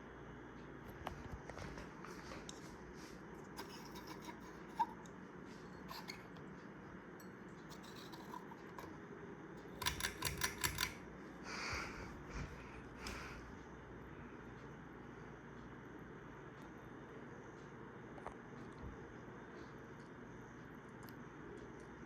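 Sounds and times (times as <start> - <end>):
ceiling fan humming: 0.0 - 22.0.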